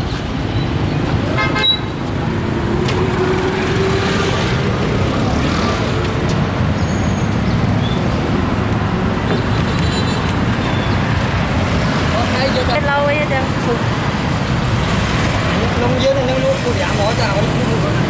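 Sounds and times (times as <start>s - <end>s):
passing motor traffic rumble: 0.0s - 18.0s.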